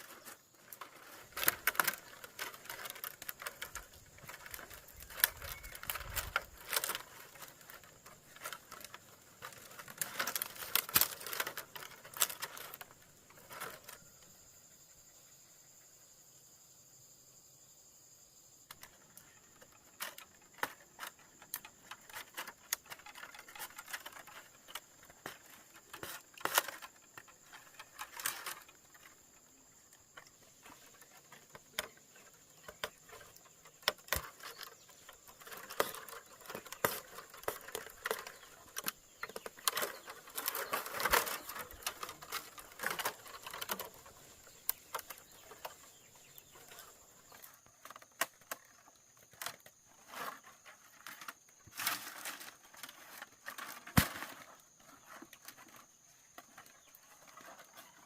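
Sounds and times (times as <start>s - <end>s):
bamboo strips clicking and rustling: 0.0s - 14.3s, 18.7s - 58.0s.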